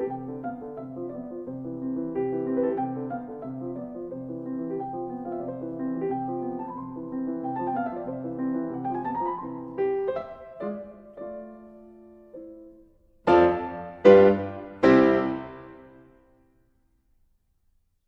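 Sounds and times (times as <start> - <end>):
piano music: 0.0 - 16.4.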